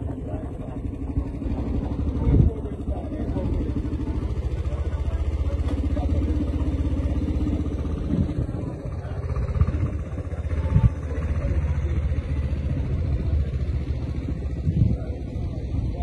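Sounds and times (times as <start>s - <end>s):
engine idling with low pulsing: 0.0s - 16.0s.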